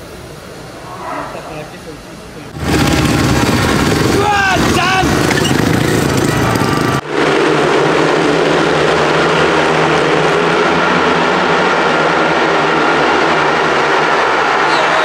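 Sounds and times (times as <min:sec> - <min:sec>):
racing motorcycle engines: 0:02.5 - 0:15.0.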